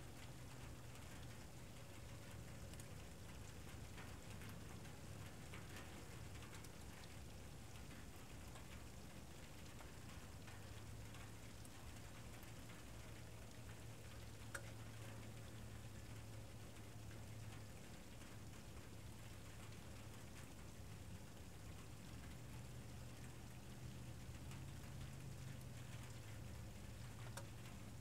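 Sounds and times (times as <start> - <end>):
background hiss and low hum: 0.0 - 28.0
light ticks: 0.1 - 28.0.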